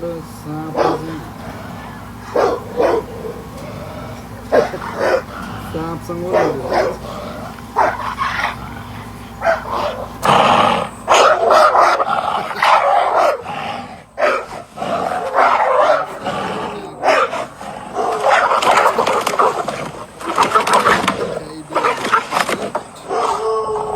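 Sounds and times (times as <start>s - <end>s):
dog barking and growling: 0.0s - 23.9s.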